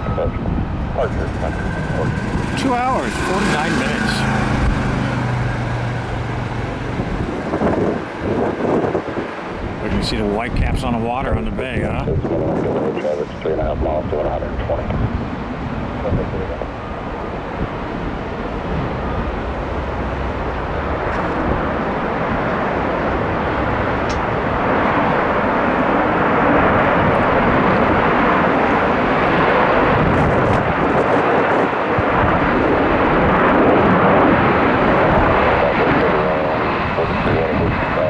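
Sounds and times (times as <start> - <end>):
jet airliner engines rushing: 0.0 - 38.0.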